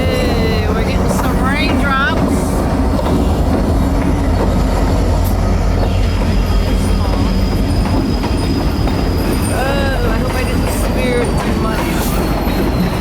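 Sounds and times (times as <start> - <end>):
diesel locomotives rumbling: 0.0 - 13.0
train in motion: 0.0 - 13.0.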